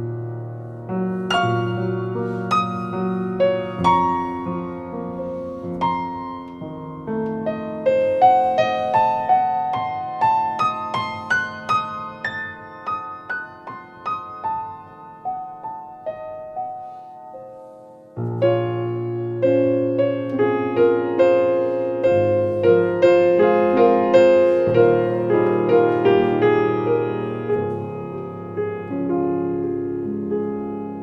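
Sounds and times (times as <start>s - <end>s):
piano-like keyboard music: 0.0s - 31.0s.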